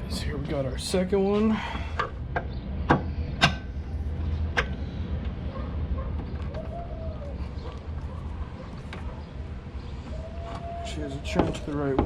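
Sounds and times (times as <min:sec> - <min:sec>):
low steady rumble: 0:00.0 - 0:10.7.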